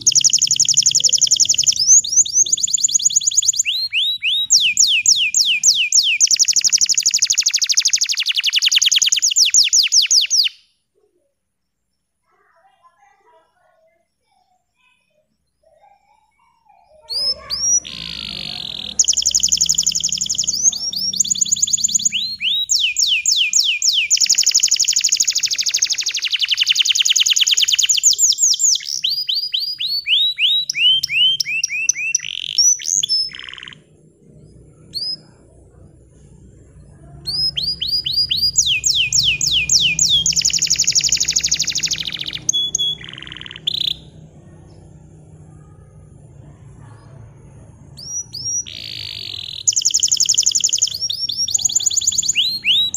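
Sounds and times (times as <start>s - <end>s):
canary singing fast trills: 0.0s - 10.8s, 15.1s - 46.4s, 47.8s - 52.9s.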